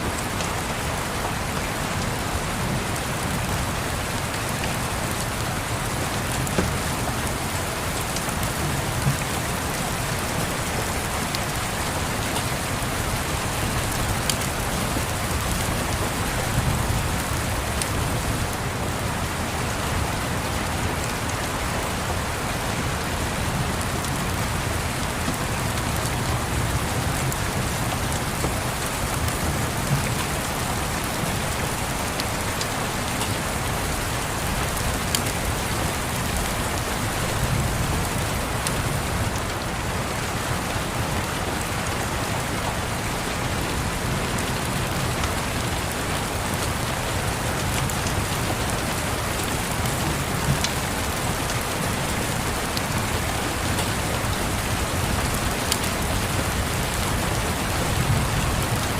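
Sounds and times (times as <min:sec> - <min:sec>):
rain on a window: 0:00.0 - 0:58.9.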